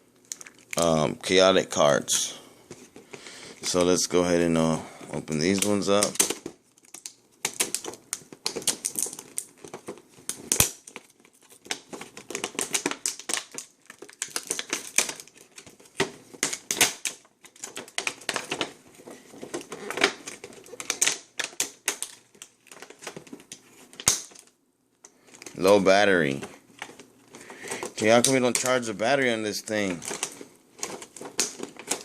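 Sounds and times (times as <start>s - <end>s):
foil wrappers crinkling: 0.2s - 32.0s.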